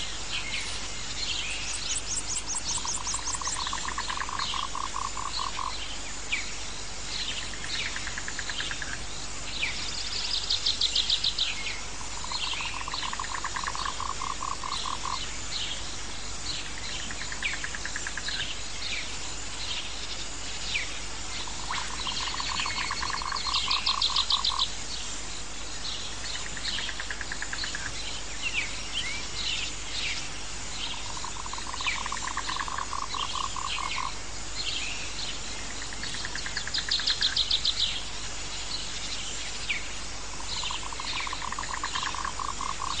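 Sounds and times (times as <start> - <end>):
frogs calling: 0.0 - 43.0
steady high hiss: 0.0 - 43.0.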